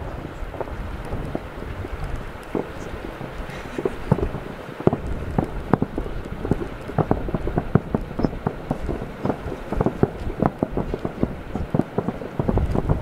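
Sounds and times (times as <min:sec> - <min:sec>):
fireworks booms and pops: 0:00.0 - 0:13.0.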